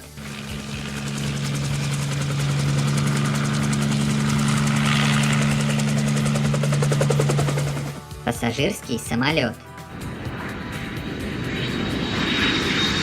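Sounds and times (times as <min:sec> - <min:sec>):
helicopter engine hum with flutter: 0:00.0 - 0:08.5, 0:09.6 - 0:13.0.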